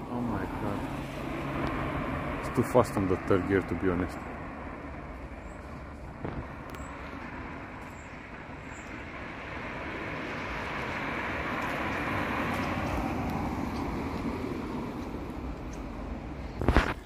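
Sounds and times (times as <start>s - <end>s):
passing car tyre and engine noise: 0.0s - 17.0s.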